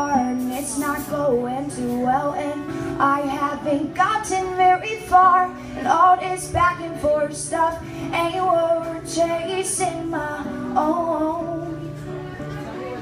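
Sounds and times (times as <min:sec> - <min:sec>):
woman singing: 0:00.0 - 0:12.4
acoustic guitar chords: 0:00.0 - 0:13.0.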